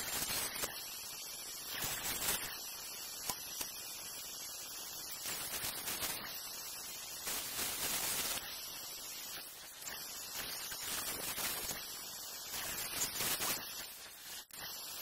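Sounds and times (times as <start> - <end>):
static-like hiss: 0.0 - 15.0.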